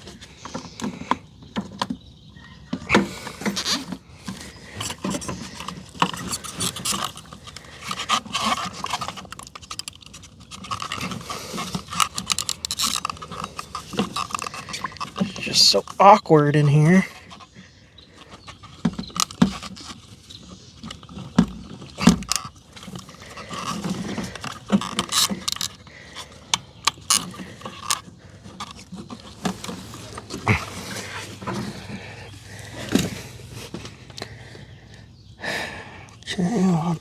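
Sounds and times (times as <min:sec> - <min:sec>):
clicks and knocks of parts: 0:02.8 - 0:16.2, 0:18.2 - 0:34.6.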